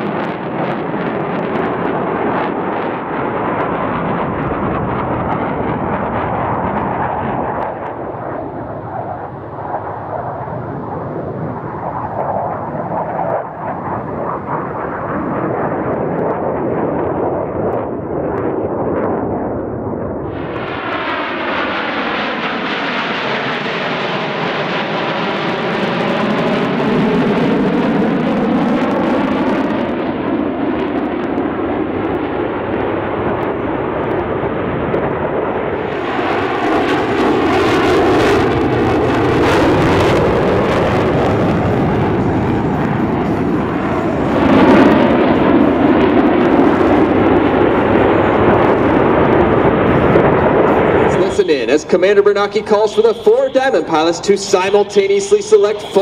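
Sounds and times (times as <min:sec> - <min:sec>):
jets flying past roaring: 0:00.0 - 0:56.0.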